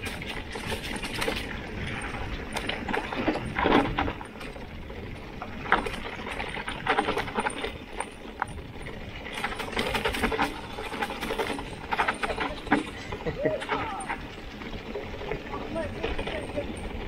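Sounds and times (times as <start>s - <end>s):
bike clicks and knocks: 0.0s - 17.0s
tyres crunching on gravel: 0.0s - 17.0s.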